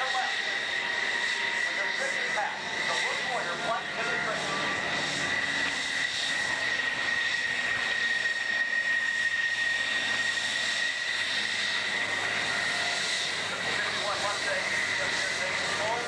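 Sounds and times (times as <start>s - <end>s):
jet engine whining: 0.0s - 16.0s.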